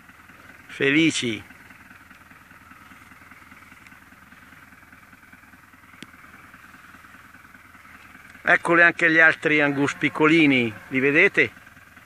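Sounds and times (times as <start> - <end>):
background rumble and hiss: 0.0 - 12.0.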